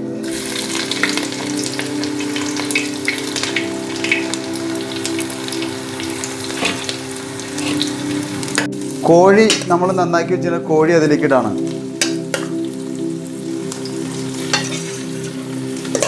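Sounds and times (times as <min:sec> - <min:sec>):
garlic and ginger sizzling in oil: 0:00.2 - 0:10.0, 0:11.4 - 0:16.0.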